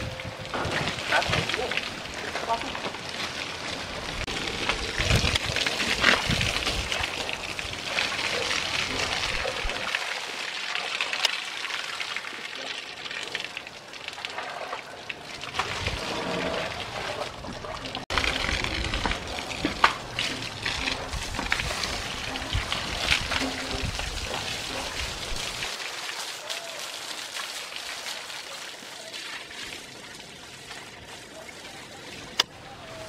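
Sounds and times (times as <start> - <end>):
hose water spraying and splashing: 0.0 - 33.0.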